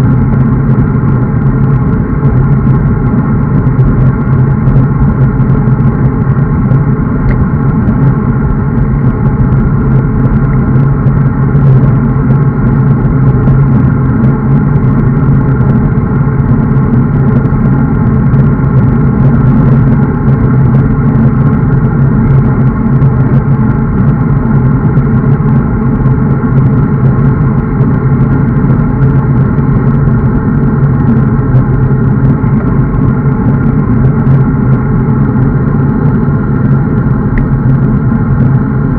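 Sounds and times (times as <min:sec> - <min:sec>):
low hum: 0:00.0 - 0:38.9
wind and road noise: 0:00.0 - 0:38.9.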